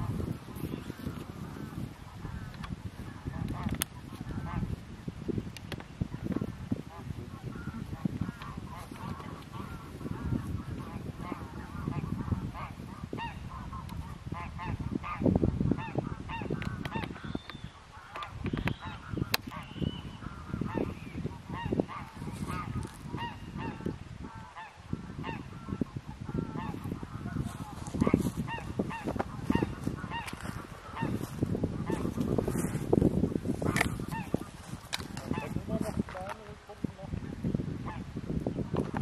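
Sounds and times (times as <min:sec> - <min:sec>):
geese honking: 0:00.0 - 0:04.8, 0:06.1 - 0:36.0.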